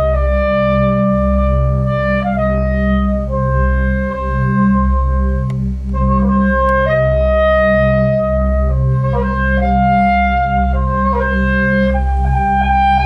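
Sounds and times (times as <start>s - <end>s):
low drone: 0.0s - 13.0s
reedy wind instrument long notes: 0.0s - 13.0s.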